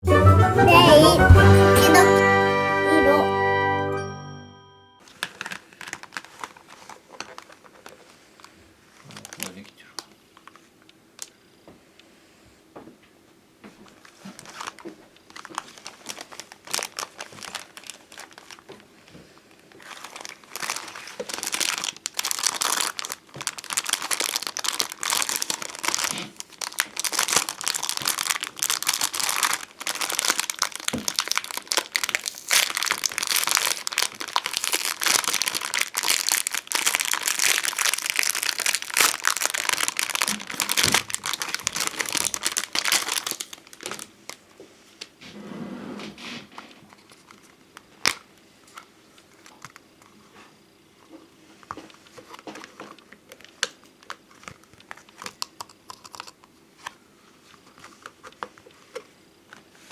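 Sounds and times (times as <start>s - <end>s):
stickers crinkling and crackling: 5.0s - 11.4s, 13.8s - 44.5s, 46.9s - 50.4s, 51.1s - 59.9s.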